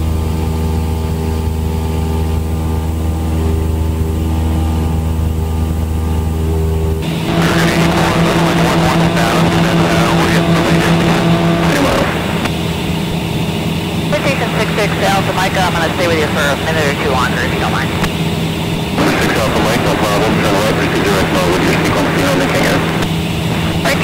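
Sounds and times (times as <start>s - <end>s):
airplane engine droning: 0.0s - 24.0s.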